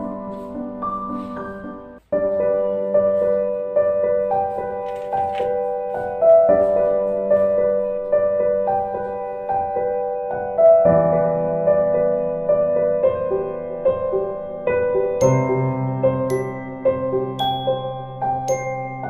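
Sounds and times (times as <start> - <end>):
piano-like keyboard music: 0.0 - 19.0.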